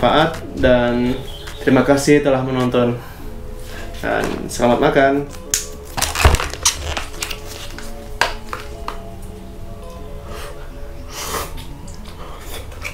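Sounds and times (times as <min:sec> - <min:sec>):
soft background music: 0:00.0 - 0:12.9.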